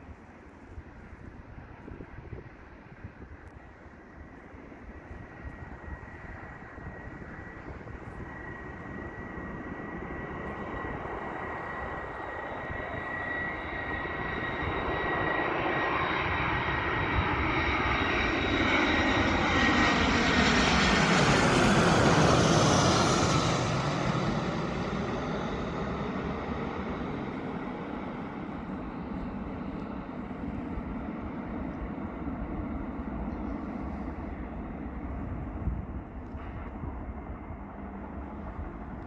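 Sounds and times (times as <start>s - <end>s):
jet engines passing overhead: 0.0s - 39.0s.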